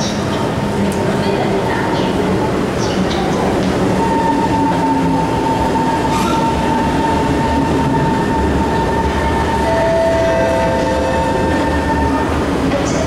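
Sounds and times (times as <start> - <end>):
metro train slowing to a stop: 0.0 - 13.0.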